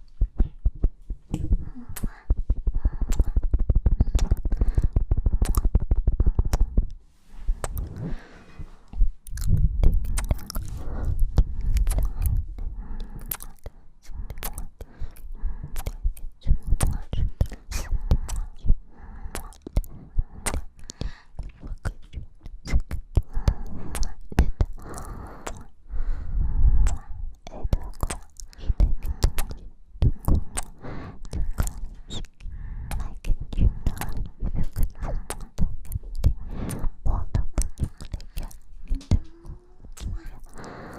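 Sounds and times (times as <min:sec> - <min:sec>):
soft kisses and lip smacks: 0:01.3 - 0:02.4, 0:03.0 - 0:06.9, 0:07.5 - 0:07.9, 0:08.9 - 0:25.7, 0:26.8 - 0:40.9
breathing onto microphone: 0:01.4 - 0:05.5, 0:06.2 - 0:21.4, 0:23.2 - 0:27.3, 0:28.5 - 0:35.5, 0:36.2 - 0:37.0, 0:37.6 - 0:40.9.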